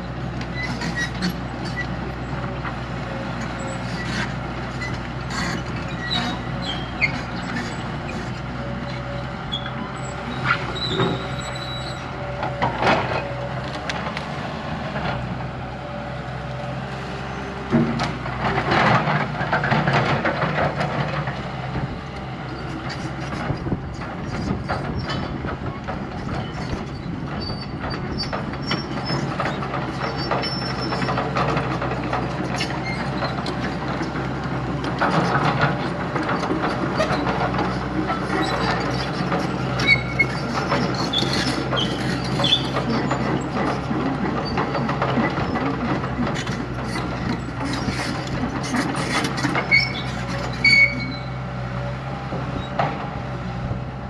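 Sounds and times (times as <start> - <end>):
heavy diesel machine running: 0.0 - 54.0
clanks and scraping: 0.4 - 15.4, 17.7 - 21.9, 22.5 - 51.3.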